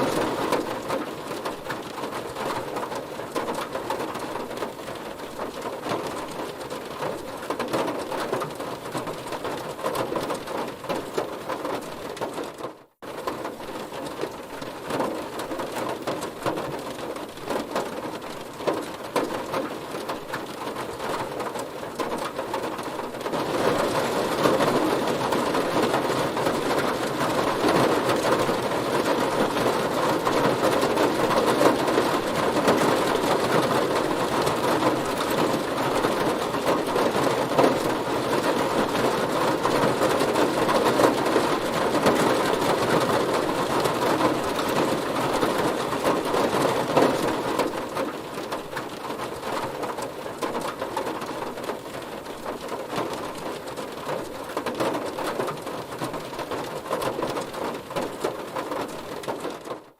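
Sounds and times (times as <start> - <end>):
heavy rain drumming on a car: 0.0 - 59.9.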